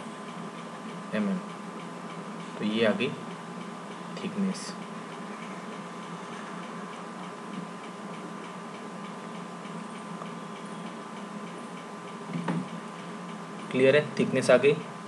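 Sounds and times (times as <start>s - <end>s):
faint ticking: 0.0s - 15.0s
steady room hum: 0.0s - 15.0s.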